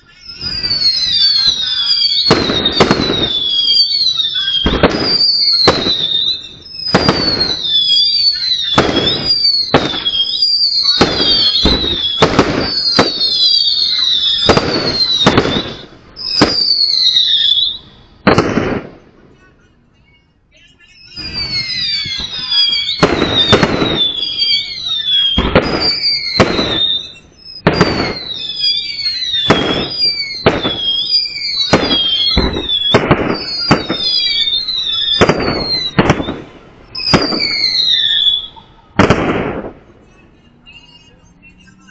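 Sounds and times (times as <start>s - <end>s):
fireworks whistles falling in pitch: 0.0s - 19.0s, 20.8s - 39.8s
fireworks bangs: 0.0s - 19.9s, 20.6s - 41.9s.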